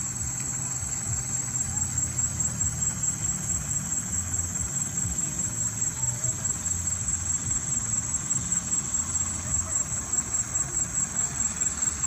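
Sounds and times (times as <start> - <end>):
insects trilling: 0.0 - 12.0
low uneven rumble: 0.0 - 12.0.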